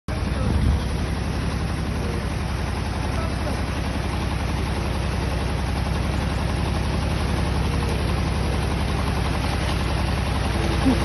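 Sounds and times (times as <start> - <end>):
tractor engine running: 0.1 - 11.0.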